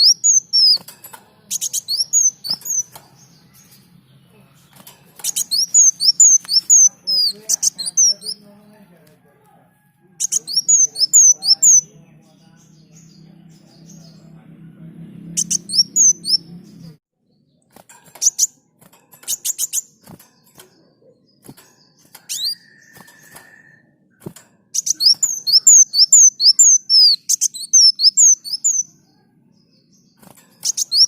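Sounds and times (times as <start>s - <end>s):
sunbird chirping: 0.0s - 8.8s, 10.2s - 31.0s.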